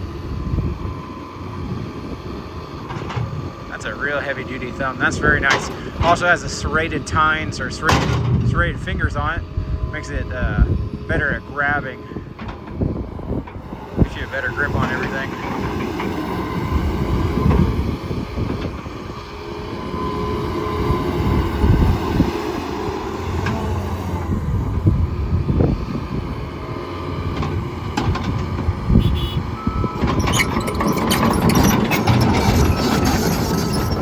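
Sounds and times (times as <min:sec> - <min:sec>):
excavator engine and hydraulics: 0:00.0 - 0:34.0.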